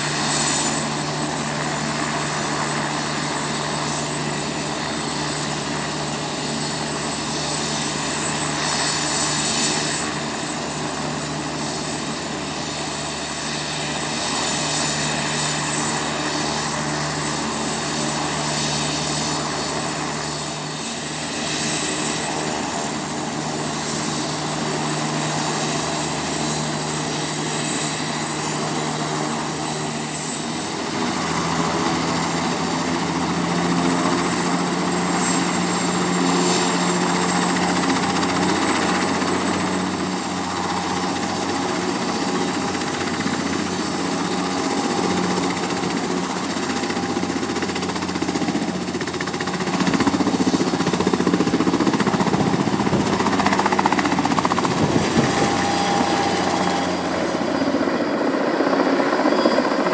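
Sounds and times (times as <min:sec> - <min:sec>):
helicopter turbine engine drone: 0:00.0 - 0:59.9.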